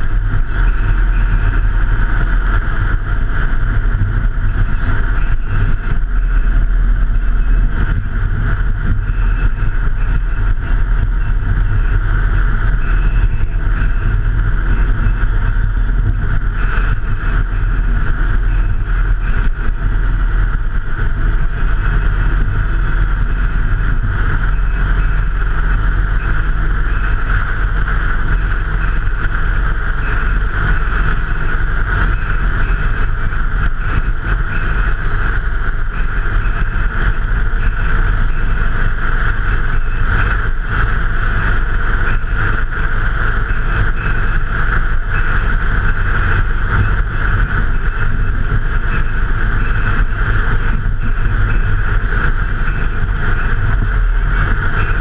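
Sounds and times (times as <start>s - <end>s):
motorcycle engine rumble: 0.0s - 55.0s
wind rush: 0.0s - 55.0s.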